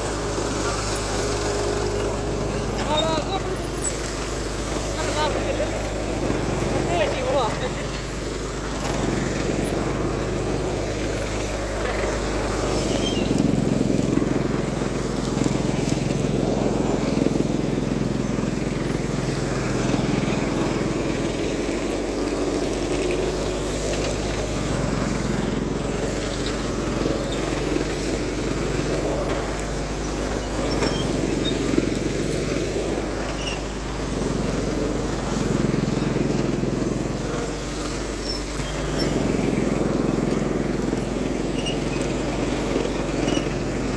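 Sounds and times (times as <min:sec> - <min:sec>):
tractor engine hum: 0:00.0 - 0:43.9.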